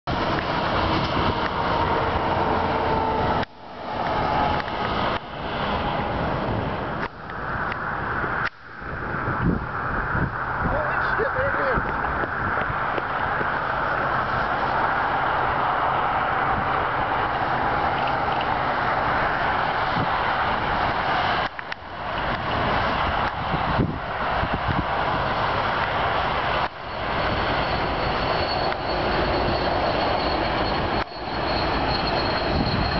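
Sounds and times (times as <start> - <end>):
highway traffic rushing: 0.0 - 32.9
truck passing close by: 0.1 - 8.4, 11.8 - 32.9.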